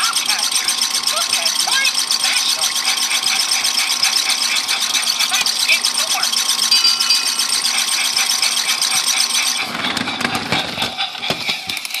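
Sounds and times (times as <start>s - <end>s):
toy train motor whirring: 0.0s - 12.0s
wheels rattling on plastic track: 0.0s - 12.0s.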